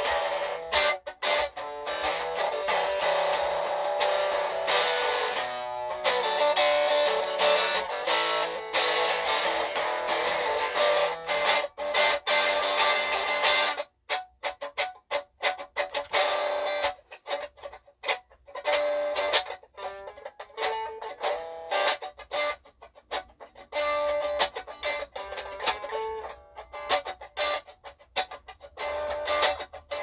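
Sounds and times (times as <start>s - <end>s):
electric guitar playing blues lick: 0.0s - 30.0s.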